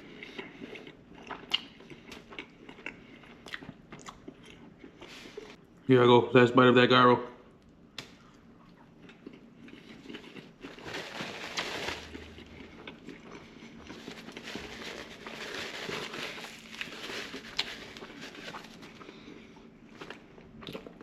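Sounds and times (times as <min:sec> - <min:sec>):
chewing and biting food: 0:00.0 - 0:05.5, 0:08.2 - 0:10.9, 0:11.5 - 0:21.0.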